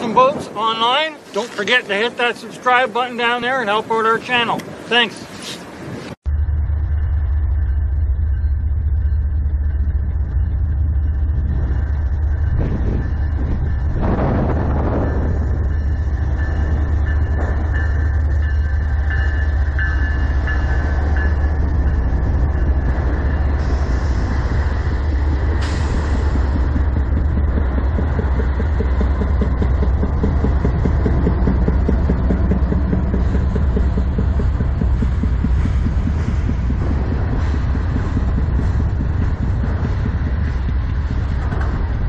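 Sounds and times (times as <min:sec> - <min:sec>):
diesel locomotives rumbling: 0:00.0 - 0:42.0.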